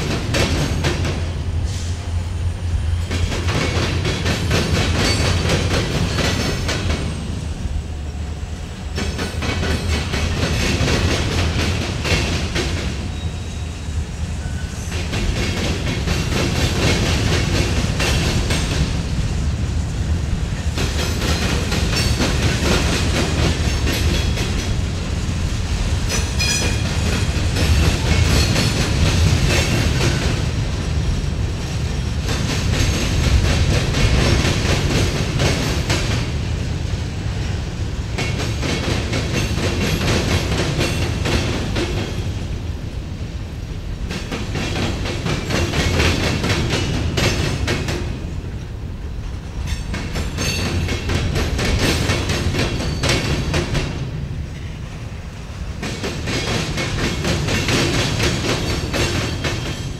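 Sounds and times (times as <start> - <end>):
train wheel clatter: 0.0 - 2.0, 3.0 - 7.3, 8.9 - 13.7, 14.4 - 19.6, 20.5 - 36.5, 38.1 - 42.6, 44.0 - 55.0, 55.7 - 59.9
train rumble: 0.0 - 59.9.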